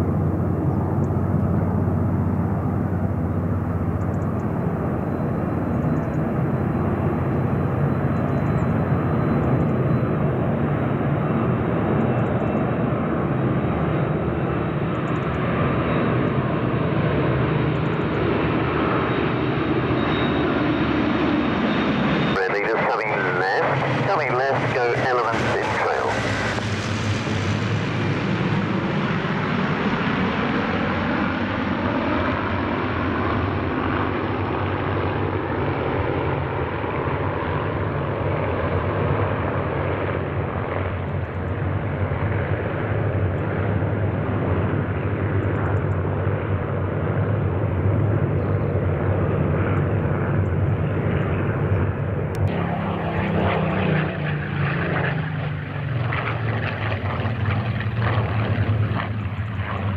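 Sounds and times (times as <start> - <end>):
propeller aircraft formation droning: 0.0 - 59.9
single propeller plane passing close: 0.0 - 59.9.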